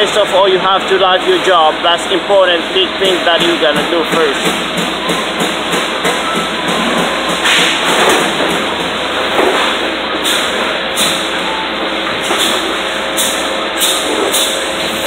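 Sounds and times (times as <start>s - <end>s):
metal fabrication shop din: 0.0s - 15.0s.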